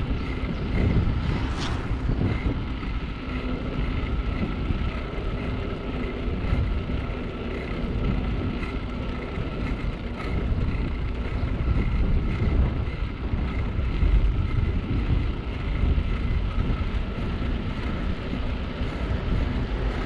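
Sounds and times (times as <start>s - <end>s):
bicycle tyre noise on road: 0.0s - 20.0s
wind rumbling on microphone: 0.0s - 20.0s.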